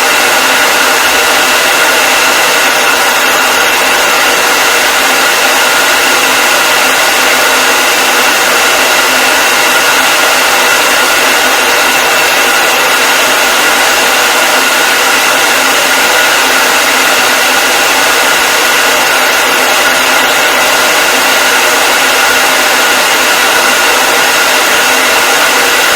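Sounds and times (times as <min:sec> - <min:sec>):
hair dryer running: 0:00.0 - 0:25.9.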